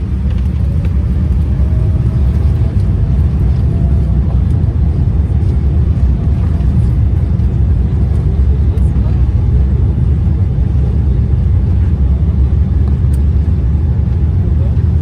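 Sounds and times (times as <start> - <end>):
aeroplane taking off: 0.0 - 15.0.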